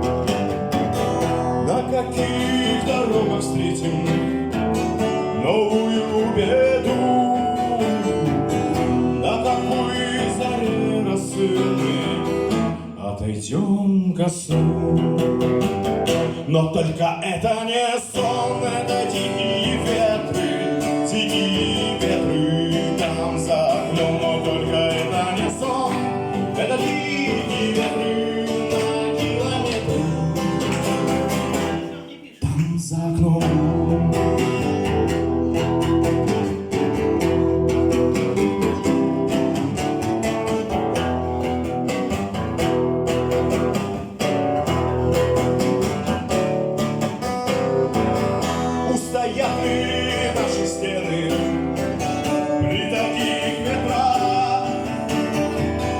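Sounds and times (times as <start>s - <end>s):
song with acoustic guitar: 0.0s - 55.9s.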